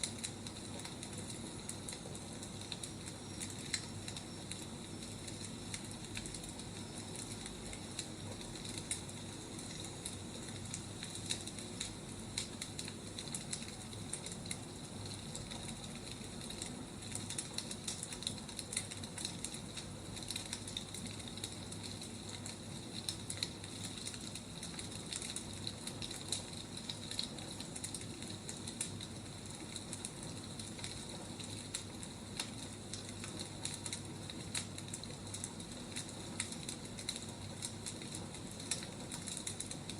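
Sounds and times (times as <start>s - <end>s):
steady hiss of flames: 0.0s - 39.9s
wood fire crackling and popping: 0.0s - 39.9s.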